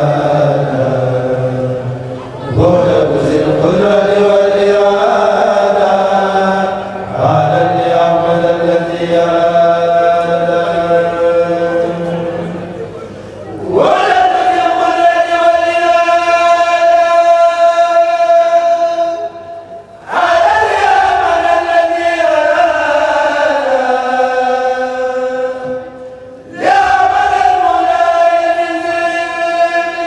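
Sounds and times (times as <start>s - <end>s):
person chanting a religious poem: 0.0s - 30.0s.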